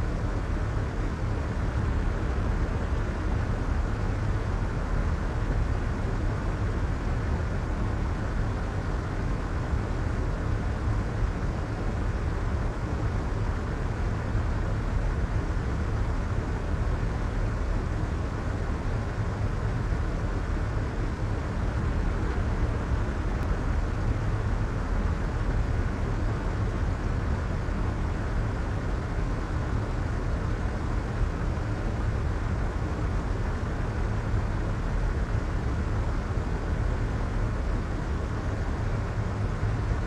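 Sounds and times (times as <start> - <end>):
white noise with low rumble: 0.0 - 40.0.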